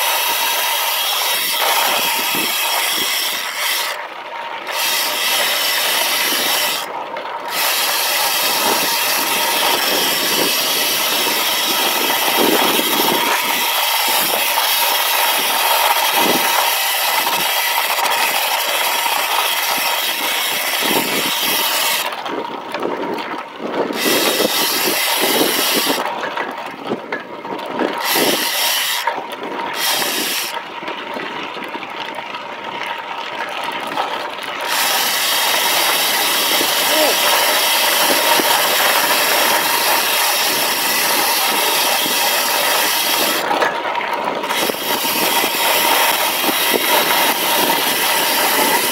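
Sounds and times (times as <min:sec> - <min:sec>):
bike tyres crunching over dirt: 0:00.0 - 0:48.9.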